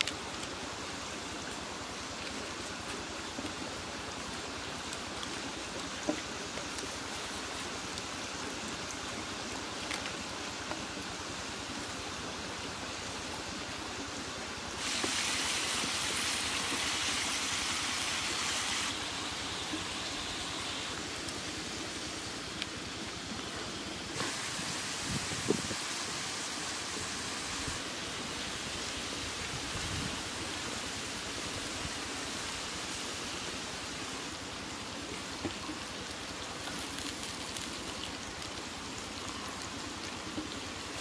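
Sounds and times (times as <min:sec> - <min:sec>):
running water: 0:00.0 - 0:41.0.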